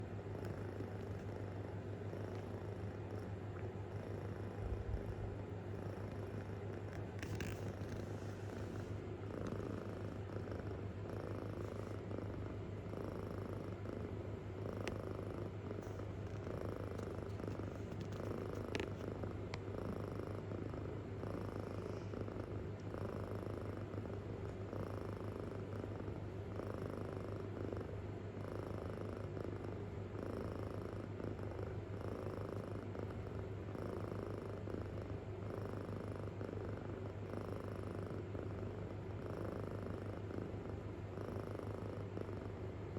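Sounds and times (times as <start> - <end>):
kitten purring: 0.0 - 42.9.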